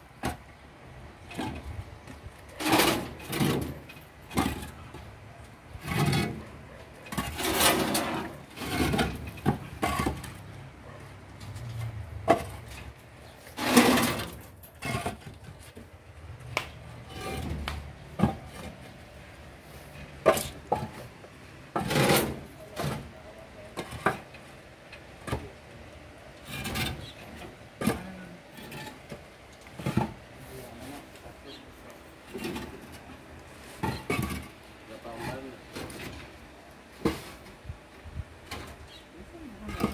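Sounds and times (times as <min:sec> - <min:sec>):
concrete blocks scraping on steel: 0:01.3 - 0:05.0, 0:05.7 - 0:15.9, 0:16.9 - 0:25.6, 0:26.3 - 0:36.4, 0:39.6 - 0:39.9.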